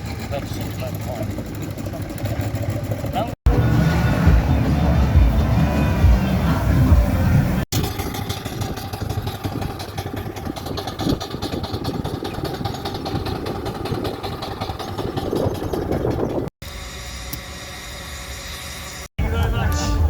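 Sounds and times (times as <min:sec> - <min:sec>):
engine running with rapid pulse: 0:00.0 - 0:19.2.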